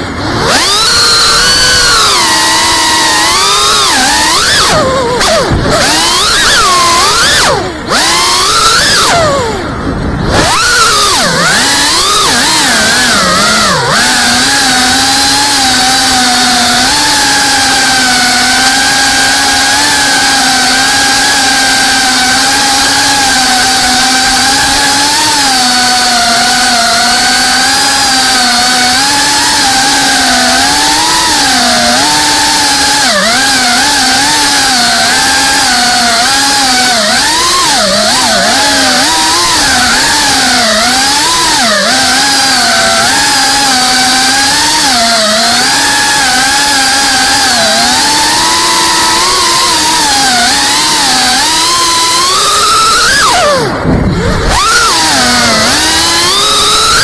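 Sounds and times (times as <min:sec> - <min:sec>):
drone propellers buzzing whine: 0:00.0 - 0:57.0.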